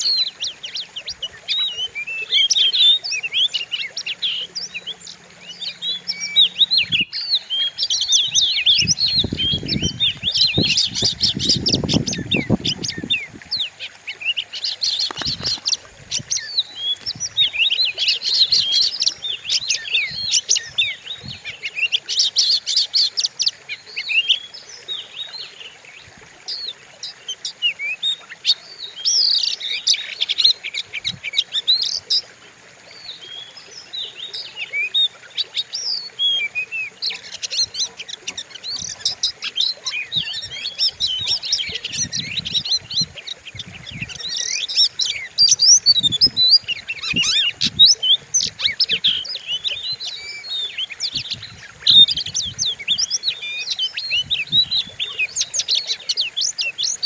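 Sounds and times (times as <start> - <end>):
bird singing chirps and whistles: 0.0 - 25.5, 34.1 - 57.0.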